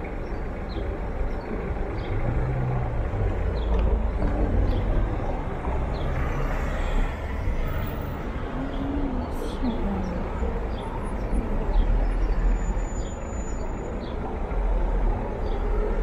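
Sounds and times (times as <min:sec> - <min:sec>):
car engines passing: 0:00.0 - 0:16.0.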